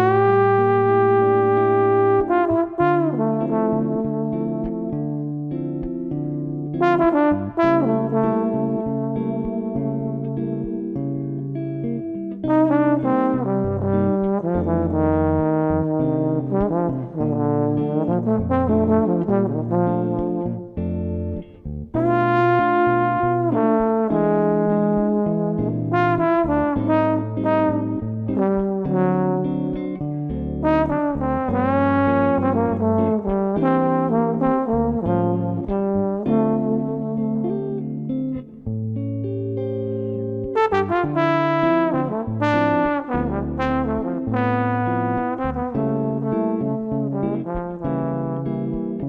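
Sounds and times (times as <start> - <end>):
trombone solo: 0.0 - 5.3, 6.8 - 10.8, 12.5 - 21.3, 21.9 - 37.9, 40.5 - 49.0
guitar accompaniment: 0.0 - 49.0.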